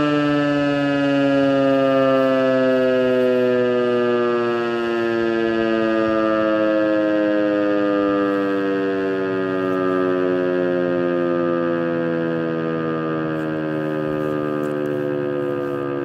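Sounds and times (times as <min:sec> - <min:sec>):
motor siren howling: 0:00.0 - 0:16.0.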